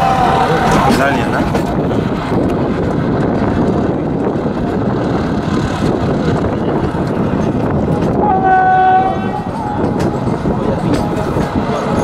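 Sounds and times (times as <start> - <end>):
passenger train running: 0.0 - 12.0
wind buffeting microphone: 0.0 - 12.0.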